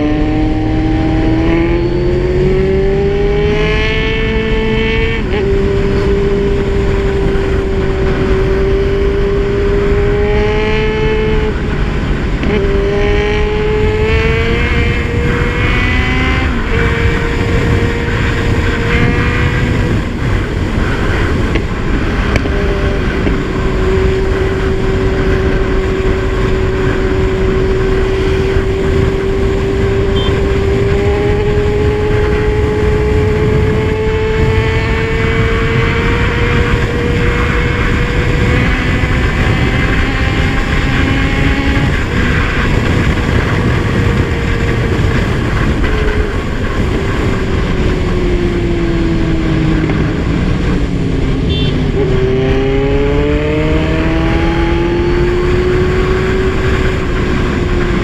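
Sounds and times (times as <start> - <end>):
heavy wind rumble: 0.0 - 58.0
motorcycle engine running: 0.0 - 58.0.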